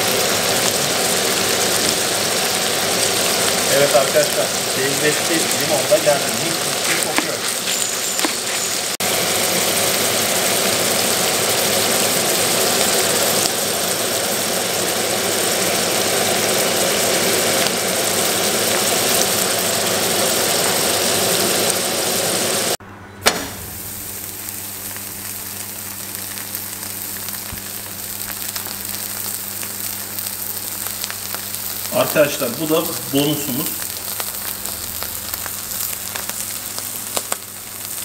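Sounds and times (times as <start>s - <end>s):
meat sizzling in a pan: 0.0s - 22.8s, 23.4s - 38.0s
steak sizzling on a grill: 0.0s - 22.8s, 23.6s - 38.0s.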